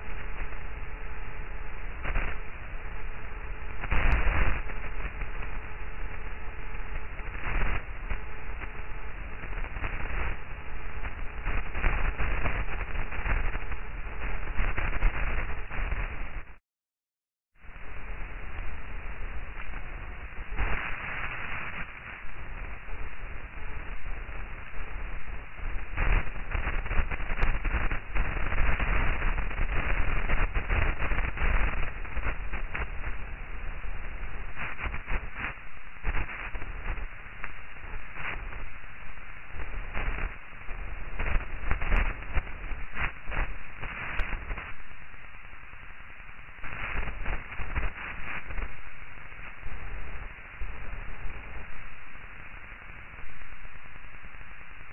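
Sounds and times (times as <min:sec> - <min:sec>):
static-like hiss in gusts: 0:00.0 - 0:16.6, 0:17.6 - 0:54.9.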